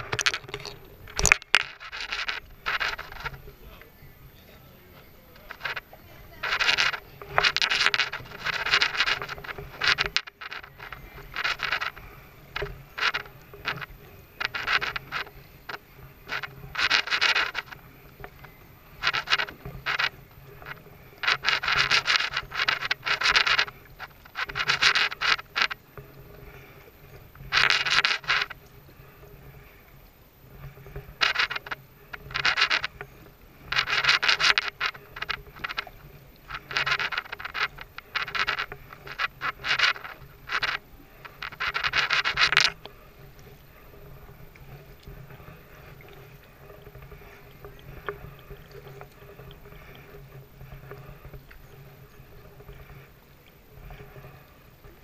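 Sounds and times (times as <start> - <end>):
kayak paddle splashing water: 0.0 - 55.0.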